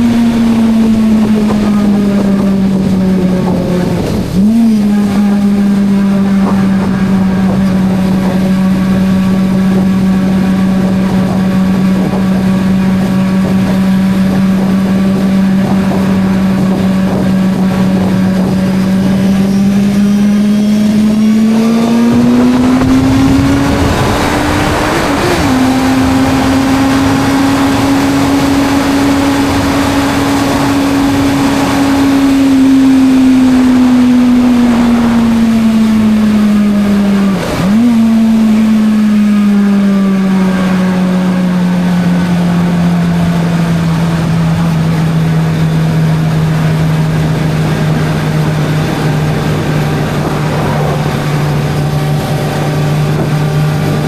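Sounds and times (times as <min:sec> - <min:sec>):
wind rushing: 0:00.0 - 0:38.6, 0:43.8 - 0:54.0
motorcycle engine cruising: 0:00.0 - 0:54.0.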